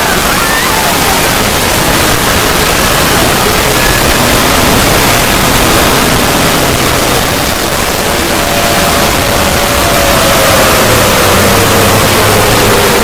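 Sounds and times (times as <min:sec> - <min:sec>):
rushing noise drone: 0:00.0 - 0:13.0.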